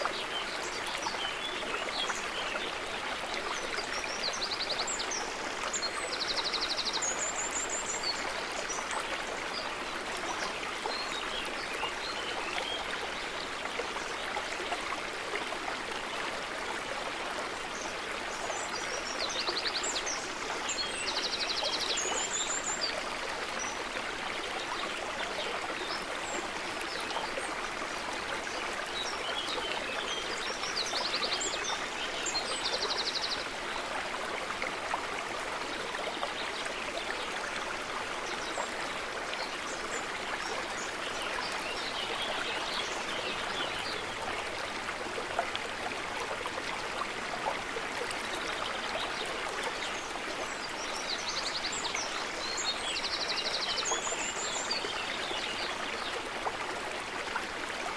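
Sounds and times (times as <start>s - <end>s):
stream water running over rocks: 0.0s - 57.9s.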